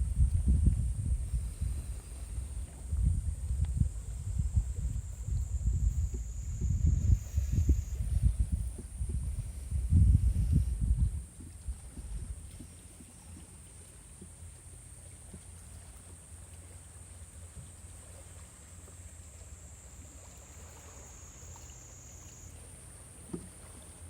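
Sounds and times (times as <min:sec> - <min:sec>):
waves and wind rumble: 0:00.0 - 0:24.0.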